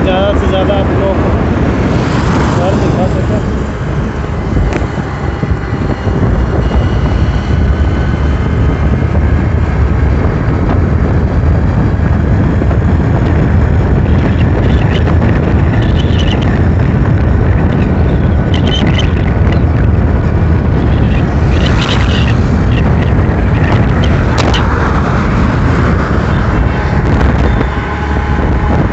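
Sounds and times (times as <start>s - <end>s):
motorcycle engine and road noise: 0.0s - 28.9s
wind buffeting microphone: 0.0s - 28.9s.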